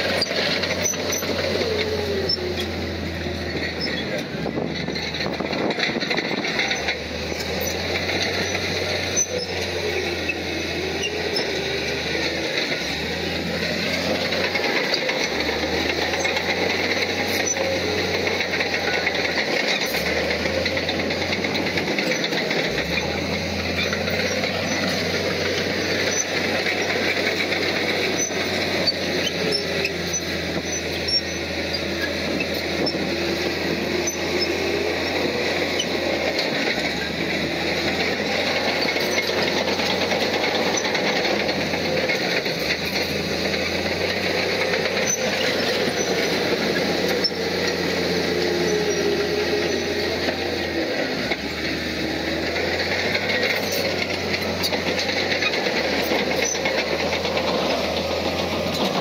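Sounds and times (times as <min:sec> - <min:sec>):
diesel machinery engine running: 0:00.0 - 0:59.0.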